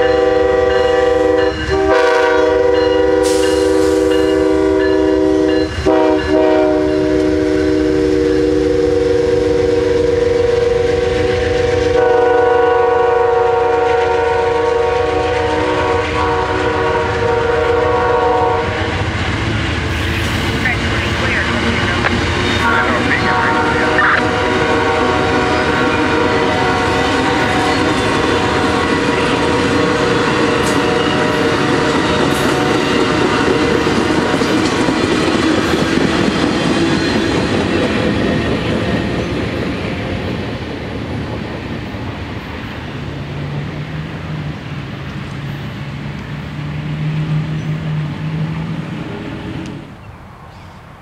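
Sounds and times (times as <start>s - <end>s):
train wheels on rails: 0.0s - 51.0s.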